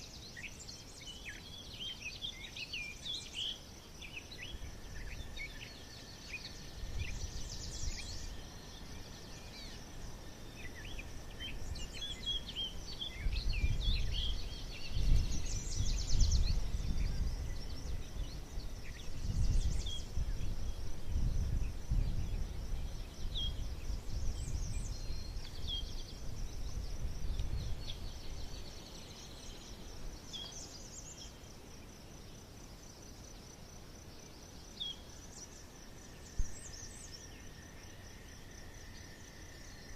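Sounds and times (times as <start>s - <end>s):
birds singing: 0.0s - 33.5s, 34.1s - 39.9s.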